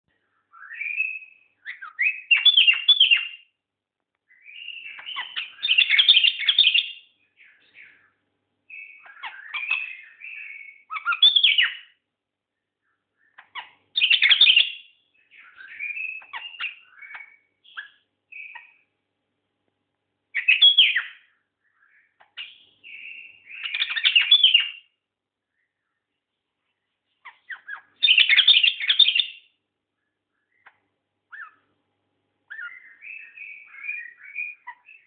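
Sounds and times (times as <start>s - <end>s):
bird singing chirps and whistles: 0.2s - 3.5s, 4.3s - 12.0s, 12.6s - 18.8s, 20.3s - 26.1s, 27.2s - 31.6s, 32.5s - 35.0s.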